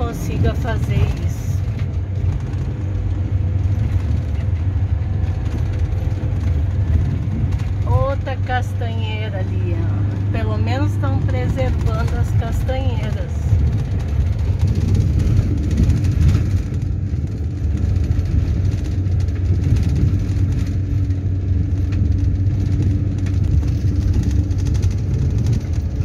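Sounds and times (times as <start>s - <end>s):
car driving on dirt road: 0.0s - 26.0s.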